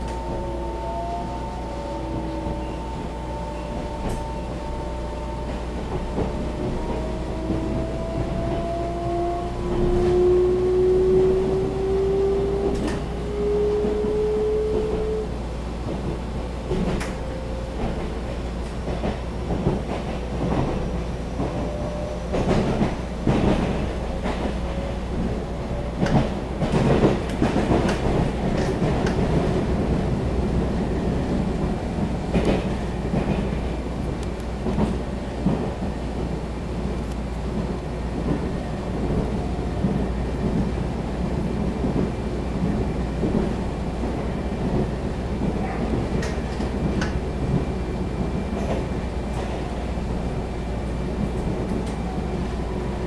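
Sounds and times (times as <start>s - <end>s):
train running rumble: 0.0s - 53.0s.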